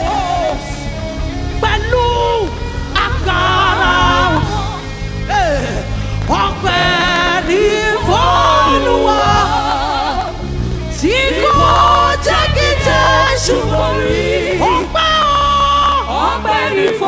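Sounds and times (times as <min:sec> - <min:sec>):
gospel singing with vibrato: 0:00.0 - 0:17.0
sustained low accompaniment: 0:00.0 - 0:17.0.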